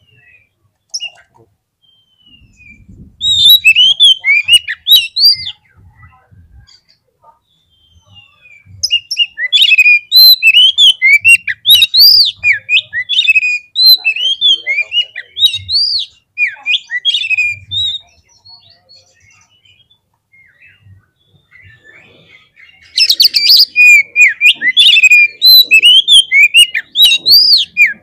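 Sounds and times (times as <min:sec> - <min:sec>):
songbird singing whistled notes: 0:00.0 - 0:28.0.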